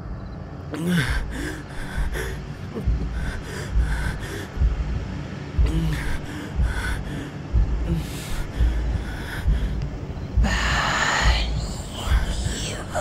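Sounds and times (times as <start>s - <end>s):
ragged gasping breathing: 0.8s - 4.9s, 5.6s - 12.6s
low thuds: 1.1s - 13.0s.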